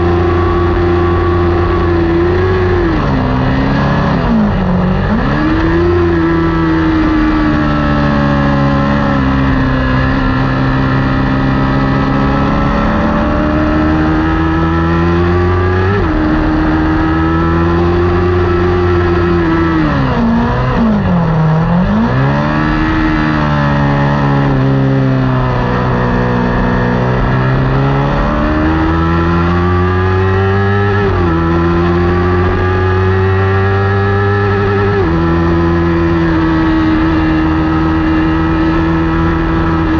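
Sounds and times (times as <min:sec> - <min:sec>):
motorcycle engine racing: 0:00.0 - 0:39.9.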